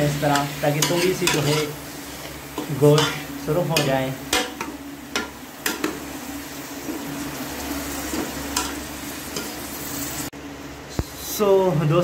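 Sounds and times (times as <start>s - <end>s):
meat sizzling in oil: 0.0s - 10.3s.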